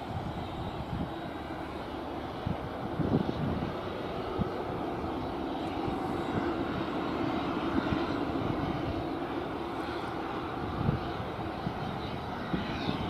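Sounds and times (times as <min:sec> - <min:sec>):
distant jet engine noise: 0:00.0 - 0:13.0.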